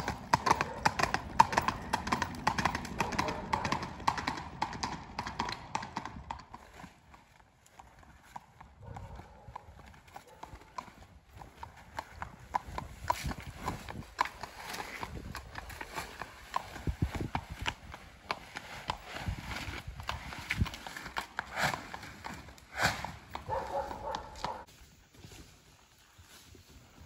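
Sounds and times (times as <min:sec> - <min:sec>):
horse hoofbeats on pavement: 0:00.0 - 0:24.7.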